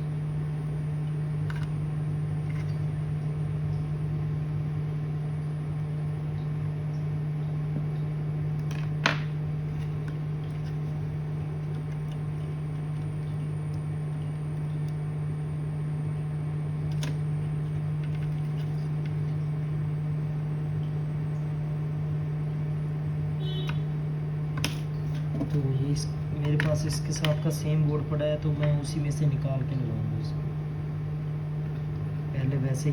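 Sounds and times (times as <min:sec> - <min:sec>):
low electrical hum: 0:00.0 - 0:32.9.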